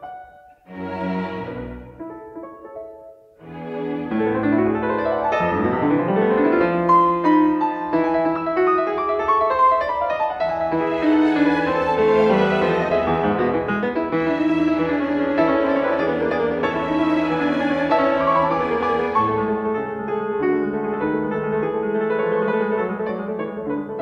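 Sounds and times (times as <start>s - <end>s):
classical piano and strings: 0.0s - 24.0s.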